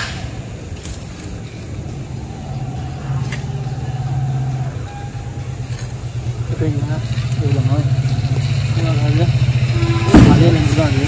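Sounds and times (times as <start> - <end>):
vehicle engine running: 0.3 - 11.0.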